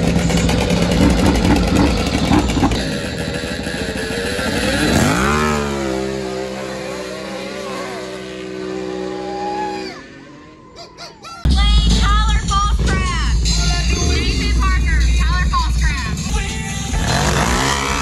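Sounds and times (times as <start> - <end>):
quad engine revving: 0.0 - 10.7, 12.7 - 18.0.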